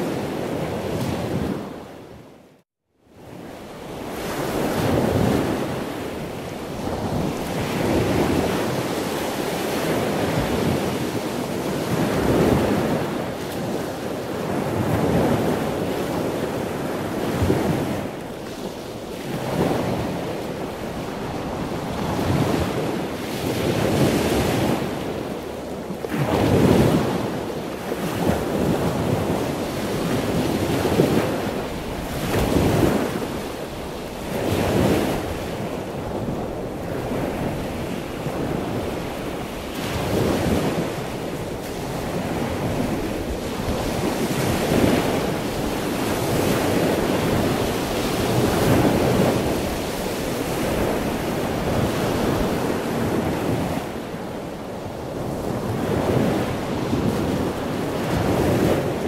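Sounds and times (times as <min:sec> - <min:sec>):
wind buffeting microphone: 0:03.2 - 0:59.0.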